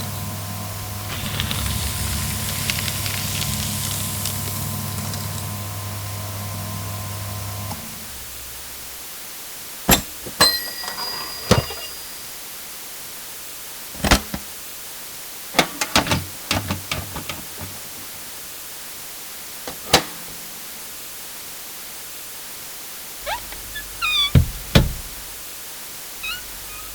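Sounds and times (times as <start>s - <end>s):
faint steady hiss: 0.0s - 26.9s.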